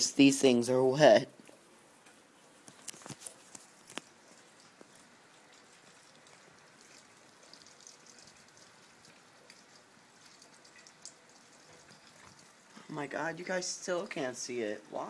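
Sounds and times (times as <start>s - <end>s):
light rain: 0.0s - 15.0s.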